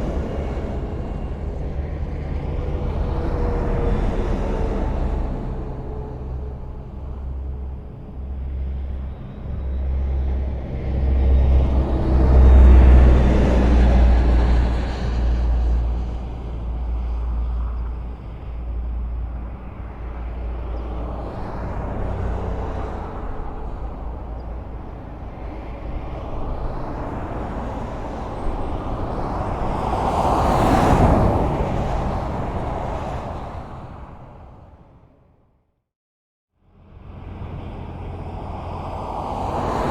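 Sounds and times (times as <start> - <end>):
cars passing: 0.0 - 35.2, 36.7 - 39.9
highway road noise: 0.0 - 35.7, 36.6 - 39.9.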